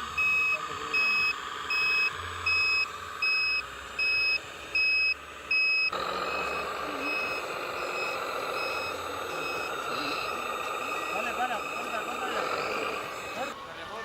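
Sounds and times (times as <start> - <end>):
low motor hum: 0.0 - 14.0
reversing alarm beeping: 0.0 - 14.0
steady whirring noise: 0.0 - 14.0.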